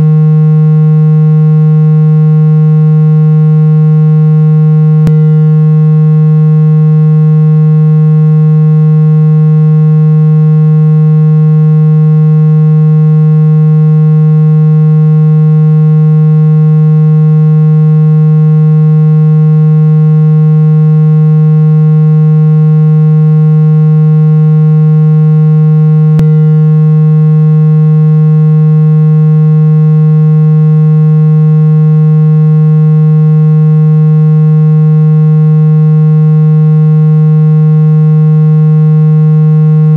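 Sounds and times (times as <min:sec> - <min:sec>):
buzzy low synthesized tone: 0:00.0 - 0:39.9.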